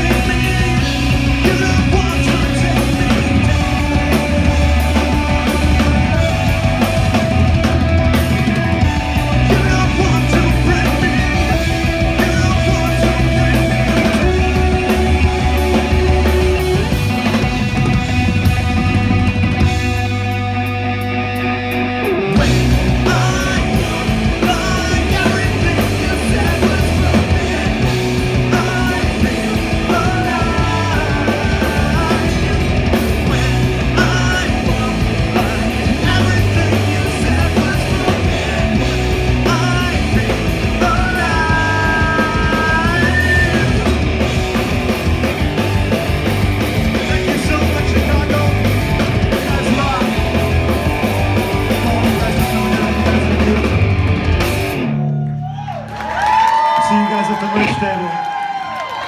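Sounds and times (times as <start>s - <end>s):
singer yelling and singing: 0.0s - 19.9s, 22.2s - 55.0s, 56.4s - 58.8s
live rock band playing: 0.0s - 59.0s.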